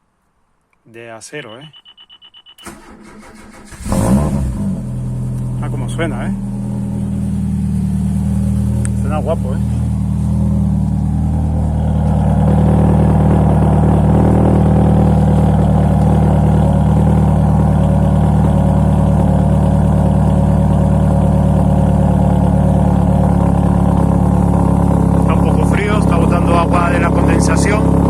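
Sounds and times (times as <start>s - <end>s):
car engine idling: 2.6s - 28.0s.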